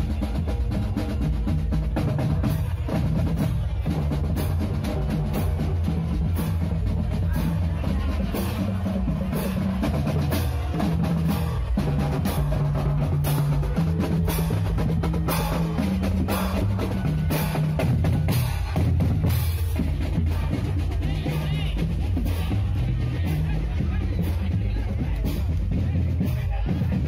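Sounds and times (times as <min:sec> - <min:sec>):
marching drums beating: 0:00.0 - 0:27.0.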